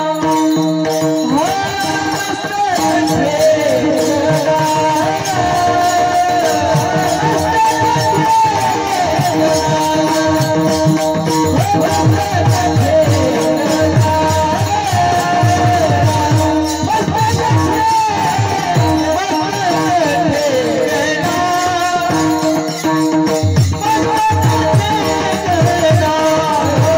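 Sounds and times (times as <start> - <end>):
drum strokes: 0.0 - 26.9
high voice singing: 0.0 - 26.9
metallic jingling rhythm: 0.0 - 26.9.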